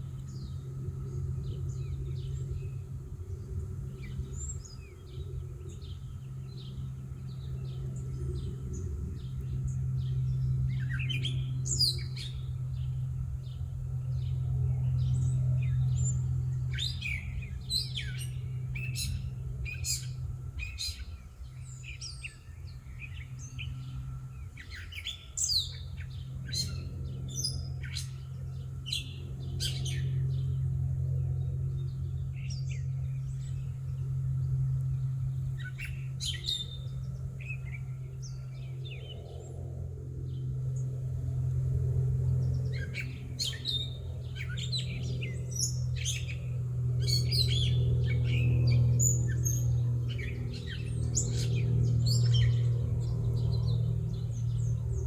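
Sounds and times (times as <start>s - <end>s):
songbirds chirping: 0.0s - 55.0s
steady low hum: 0.0s - 55.0s.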